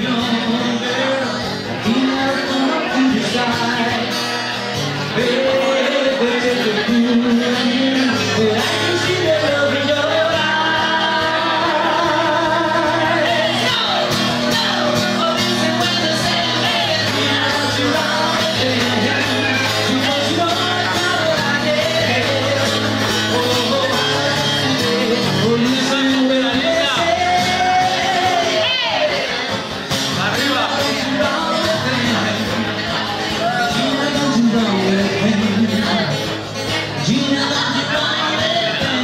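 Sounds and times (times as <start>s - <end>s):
acoustic guitar strumming: 0.0s - 39.0s
man singing into microphone: 0.0s - 39.0s.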